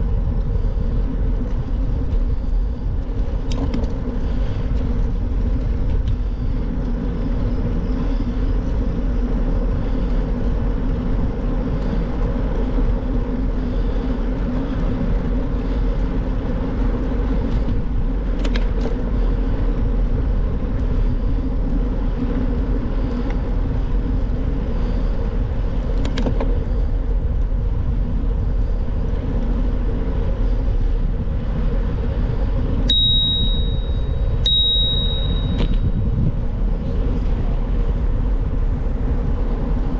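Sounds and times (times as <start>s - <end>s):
bicycle tyres rolling on road: 0.0s - 39.9s
wind on microphone: 0.0s - 39.9s.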